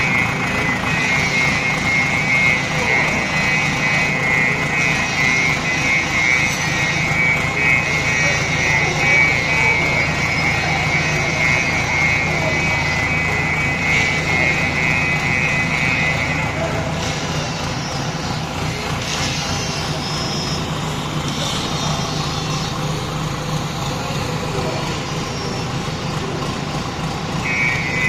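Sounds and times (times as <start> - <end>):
diesel engine running: 0.0 - 28.0
high-pitched tone: 0.0 - 28.0.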